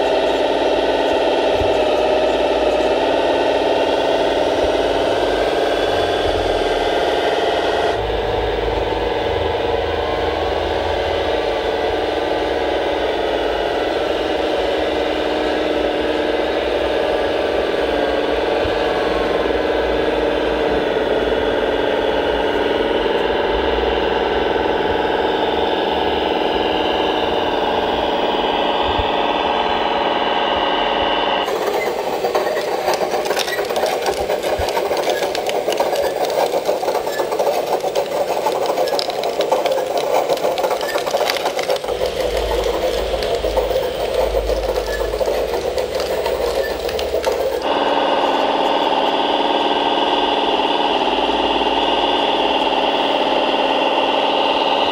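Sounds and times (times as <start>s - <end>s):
rattling knocking mechanical running: 0.0s - 30.8s, 31.4s - 54.9s
model loader motors whining: 0.0s - 54.9s.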